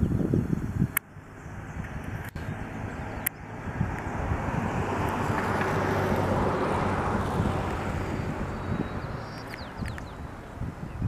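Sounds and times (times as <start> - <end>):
vehicle passing by: 0.6 - 11.0.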